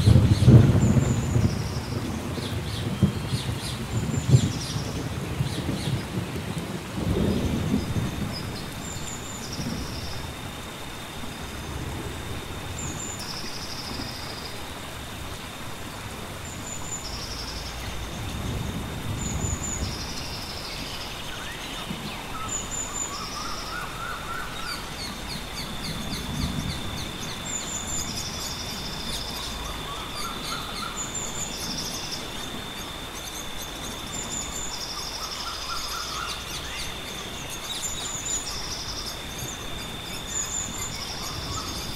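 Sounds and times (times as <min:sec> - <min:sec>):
thunder rumbling: 0:00.0 - 0:35.2
rain hissing: 0:00.0 - 0:41.9
steady high whine: 0:07.0 - 0:41.9.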